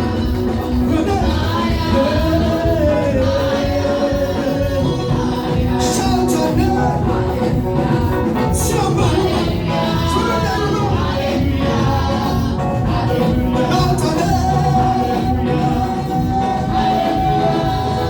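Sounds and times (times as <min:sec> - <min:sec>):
band playing: 0:00.0 - 0:18.0
gospel singing: 0:00.0 - 0:18.0.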